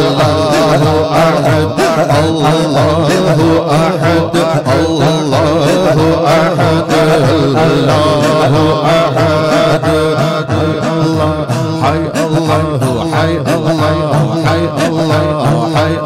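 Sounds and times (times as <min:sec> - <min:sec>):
man singing a hymn: 0:00.0 - 0:16.0.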